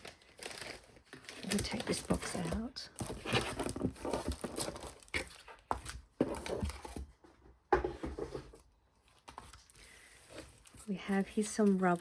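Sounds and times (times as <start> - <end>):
packaging crinkling and rustling: 0.0 - 7.2, 8.0 - 12.0.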